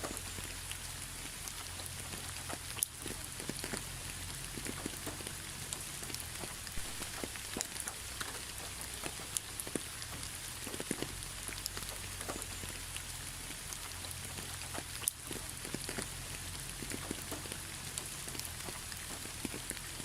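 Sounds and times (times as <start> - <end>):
steady rain with drop ticks: 0.0 - 20.0.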